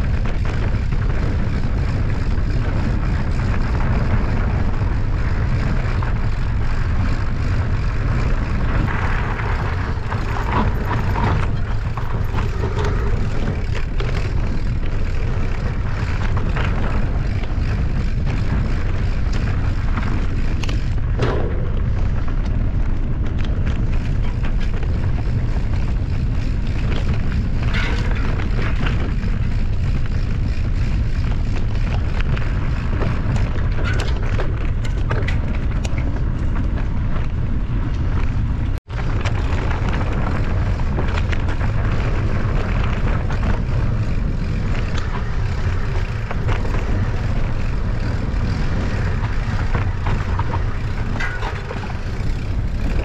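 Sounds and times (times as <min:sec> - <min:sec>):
bike rattling over stony ground: 0:00.0 - 0:53.0
wind rumble on microphone: 0:00.0 - 0:53.0.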